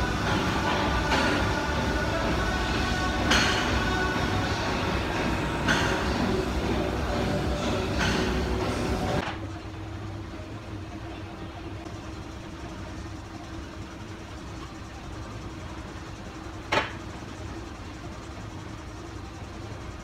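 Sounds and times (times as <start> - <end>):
faint constant tone: 0.0 - 20.0
low room hum: 0.0 - 20.0.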